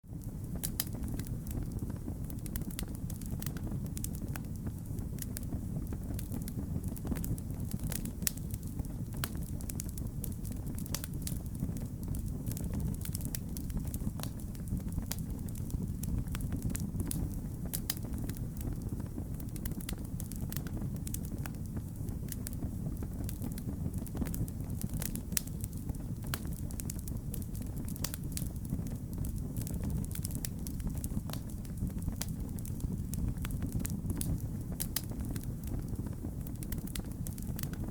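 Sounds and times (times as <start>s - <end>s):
fire popping and snapping: 0.0s - 37.9s
low fire rumble: 0.0s - 37.9s.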